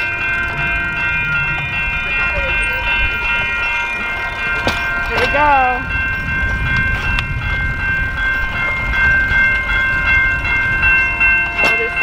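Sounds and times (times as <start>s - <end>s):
high ringing tones: 0.0s - 12.0s
steel wheels rumbling on rails: 0.0s - 12.0s.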